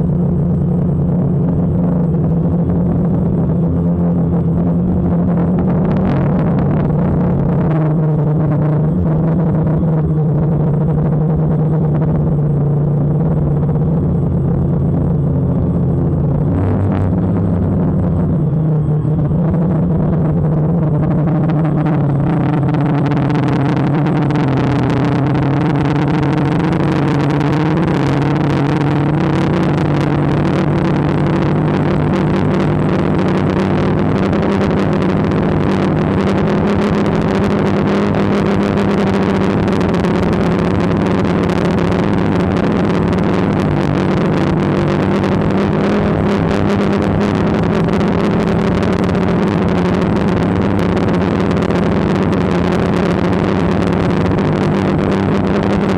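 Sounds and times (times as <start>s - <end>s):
drone propellers buzzing: 0.0s - 55.9s.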